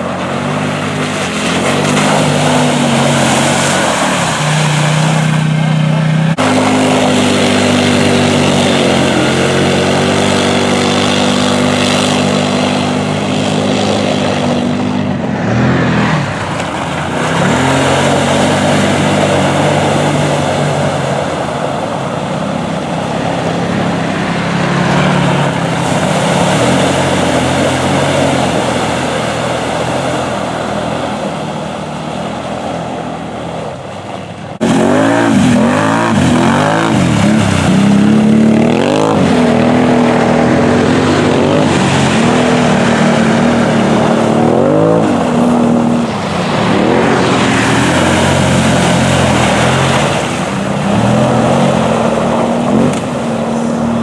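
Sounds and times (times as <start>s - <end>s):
quad engine revving: 0.0s - 33.7s, 34.6s - 54.0s
mud and water spraying: 0.0s - 54.0s
utility vehicle engine high revs: 0.0s - 54.0s.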